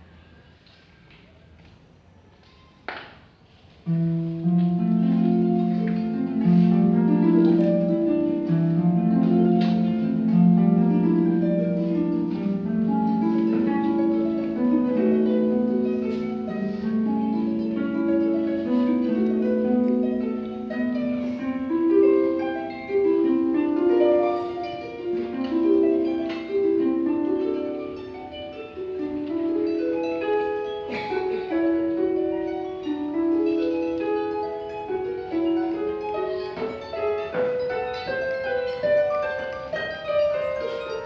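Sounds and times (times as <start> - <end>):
harp playing: 3.8 - 41.0.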